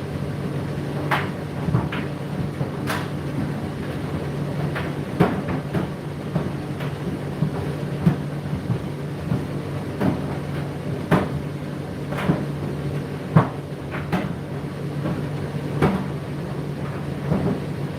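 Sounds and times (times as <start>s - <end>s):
tumble dryer motor hum: 0.0s - 17.9s.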